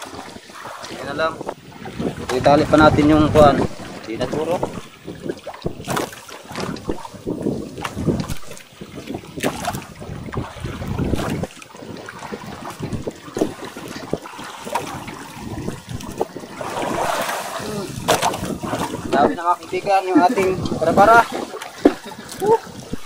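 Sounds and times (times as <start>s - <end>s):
water sloshing around boat: 0.0s - 23.0s.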